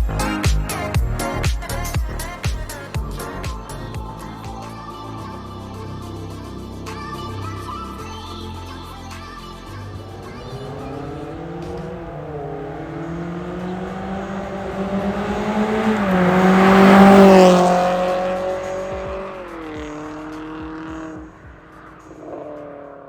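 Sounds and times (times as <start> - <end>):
car exhaust accelerating past: 1.1 - 8.1, 9.2 - 23.0.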